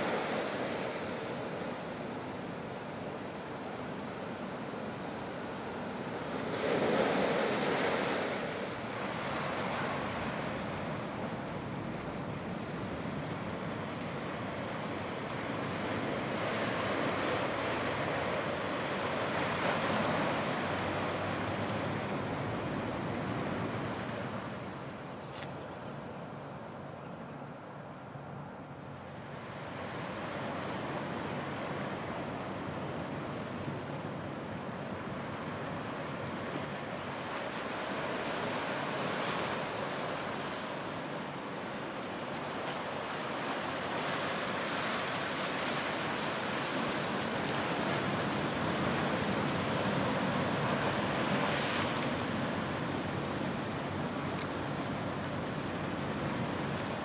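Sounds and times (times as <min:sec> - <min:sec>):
waves breaking on a beach: 0:00.0 - 0:25.1, 0:28.8 - 0:57.0.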